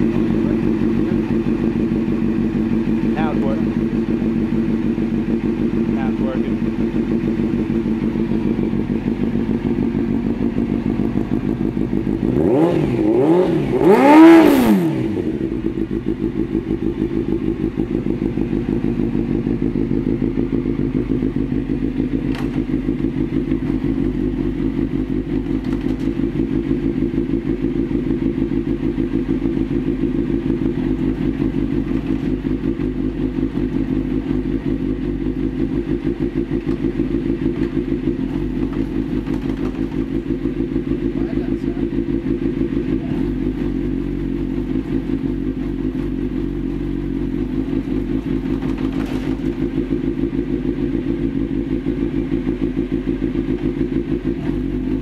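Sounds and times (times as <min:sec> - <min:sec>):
engine revving: 0:00.0 - 0:55.0
motorcycle engine idling: 0:00.0 - 0:55.0.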